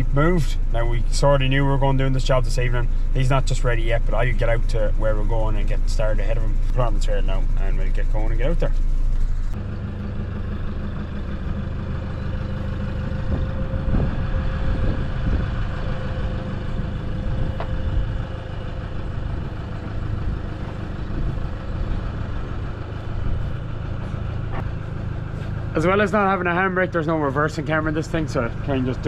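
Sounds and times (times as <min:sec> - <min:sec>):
vehicle engine running at low speed: 0:00.0 - 0:29.0.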